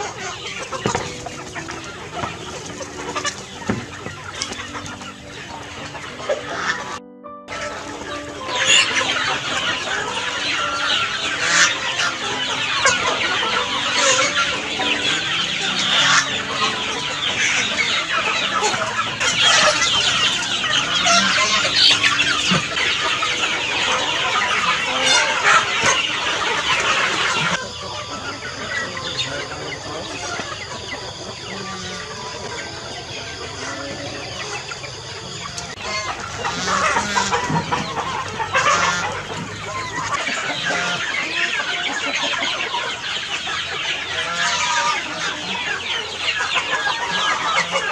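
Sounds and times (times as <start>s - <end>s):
flock of chickens clucking: 0.0s - 47.9s.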